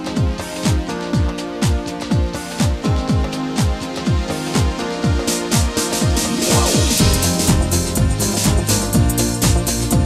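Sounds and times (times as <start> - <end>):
electronic music: 0.0 - 10.0
kick drum: 0.0 - 10.0
synth chords: 0.0 - 10.0.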